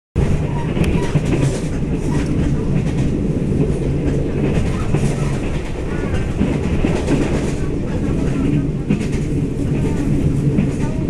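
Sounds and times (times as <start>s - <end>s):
train wheels rumbling on rail: 0.2s - 11.0s.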